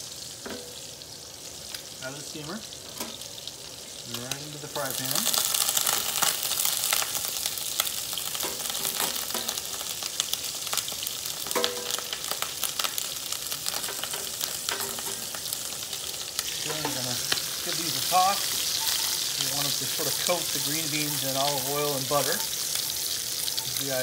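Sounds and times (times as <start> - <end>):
green beans sizzling in pan: 0.0 - 24.0.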